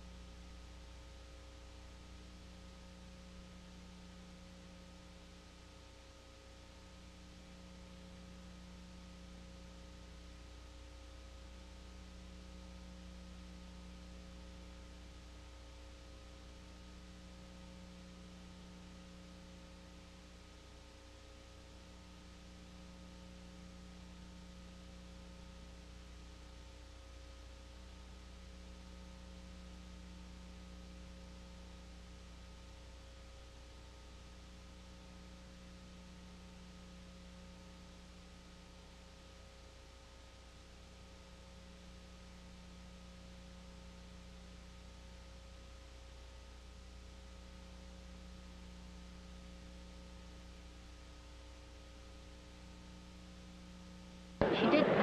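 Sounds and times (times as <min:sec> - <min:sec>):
faint electrical hum and hiss: 0:00.0 - 0:55.0.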